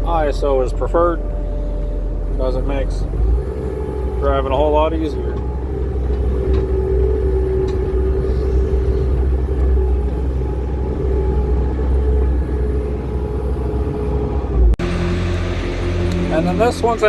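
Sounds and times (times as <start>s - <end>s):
skid steer engine rumble: 0.0s - 17.0s.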